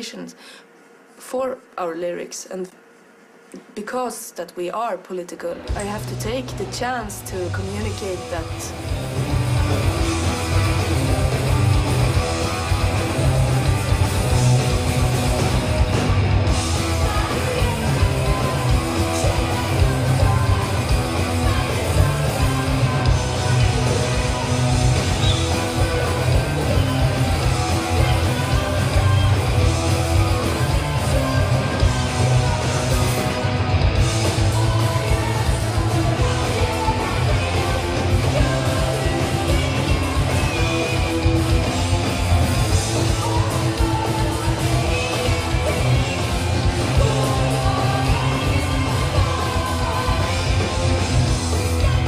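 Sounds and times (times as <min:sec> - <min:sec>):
person singing: 0:05.6 - 0:52.0
punk rock music: 0:05.6 - 0:52.0.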